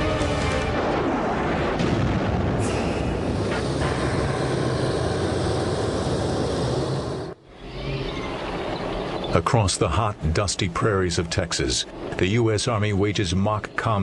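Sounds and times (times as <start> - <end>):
tank engine and tracks rumbling: 0.0 - 14.0.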